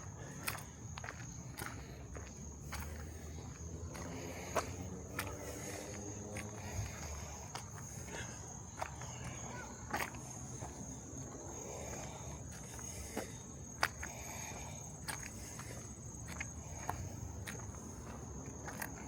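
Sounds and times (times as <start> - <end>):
footsteps on a trail: 0.0 - 19.0
insects chirping: 0.0 - 19.0.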